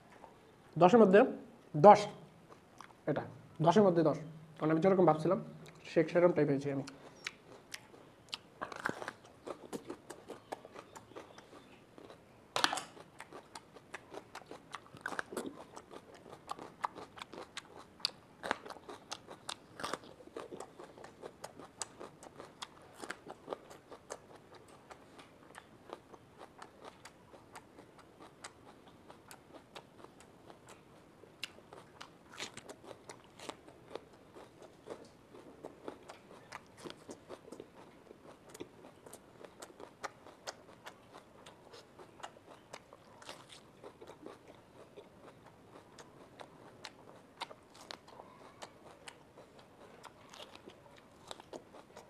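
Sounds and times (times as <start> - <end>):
wet chewing: 2.5 - 3.0, 6.8 - 52.0
pepper crunching when bitten: 6.7 - 52.0.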